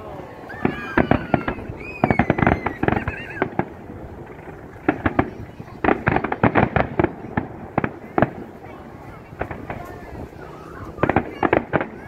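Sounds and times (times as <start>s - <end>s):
fireworks bangs and crackles: 0.4s - 12.0s.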